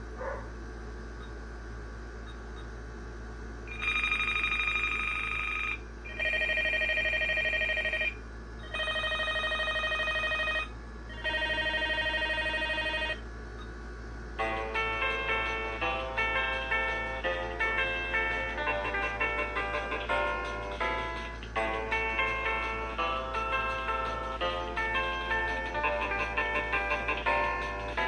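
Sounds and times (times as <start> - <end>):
warbling electronic ringtone: 3.7 - 13.2, 14.4 - 28.0.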